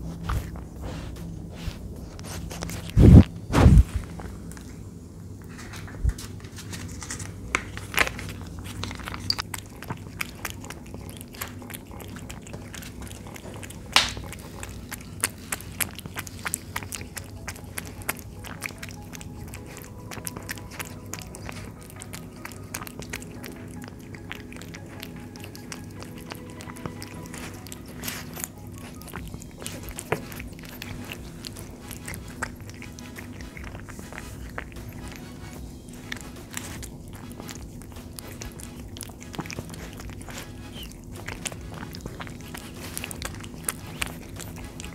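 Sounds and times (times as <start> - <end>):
cat chewing wet food: 0.0 - 4.8, 5.4 - 44.9.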